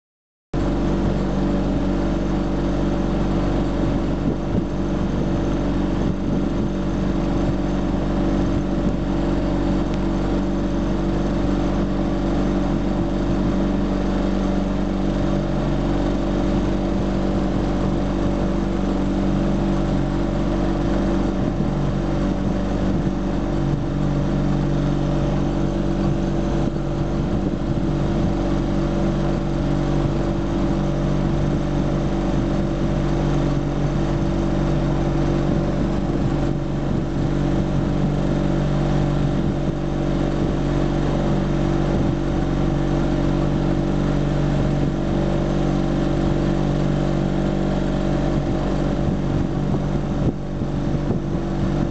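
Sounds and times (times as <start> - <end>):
boat engine running: 0.6 - 51.9.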